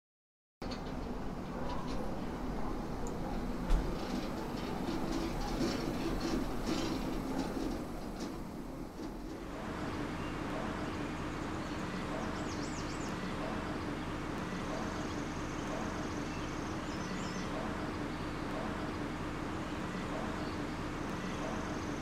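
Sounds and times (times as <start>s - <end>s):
outdoor background noise: 0.6s - 22.0s.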